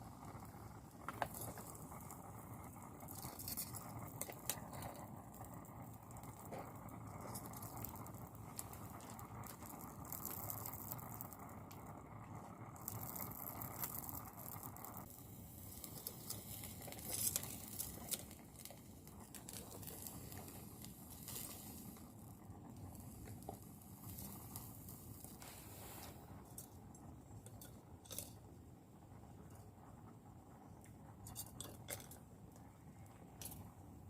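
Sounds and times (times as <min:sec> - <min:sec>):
faint crinkling: 0:00.0 - 0:28.5
soft steady hiss: 0:00.0 - 0:34.0.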